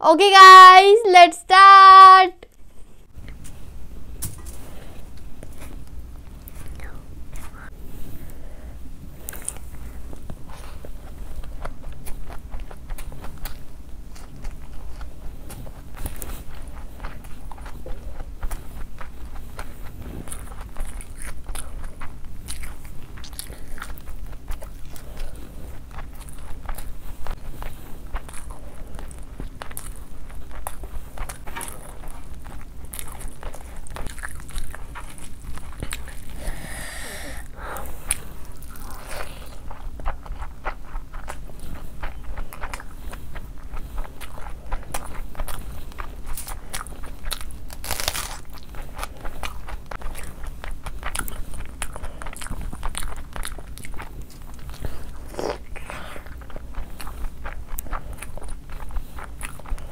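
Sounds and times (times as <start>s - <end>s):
person chewing food: 2.5s - 59.9s.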